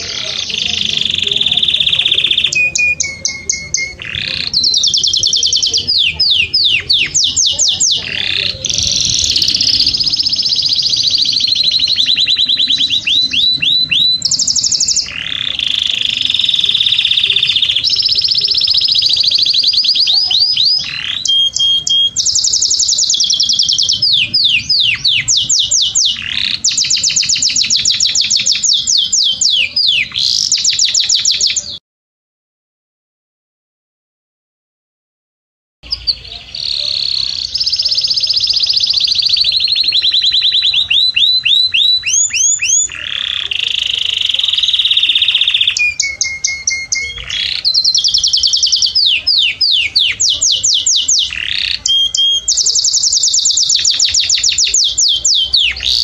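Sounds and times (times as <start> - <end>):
canary singing trills: 0.0 - 31.8, 35.8 - 56.0.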